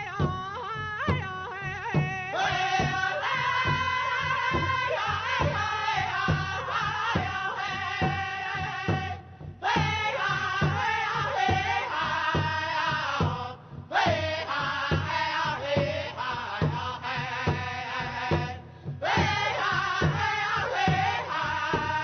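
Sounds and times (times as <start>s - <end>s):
steady drumbeat: 0.0s - 22.0s
voices singing chant-like phrases: 0.0s - 22.0s.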